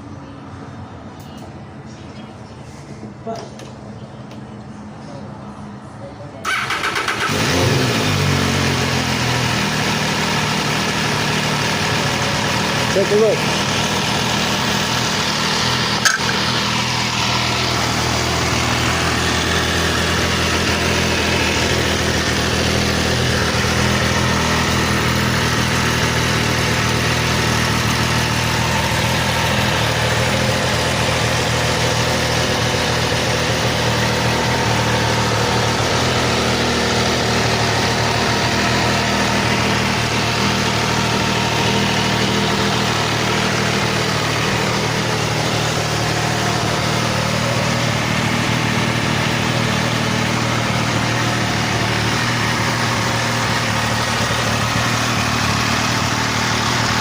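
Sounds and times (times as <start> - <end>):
motorcycle engine idling: 6.4 - 57.0.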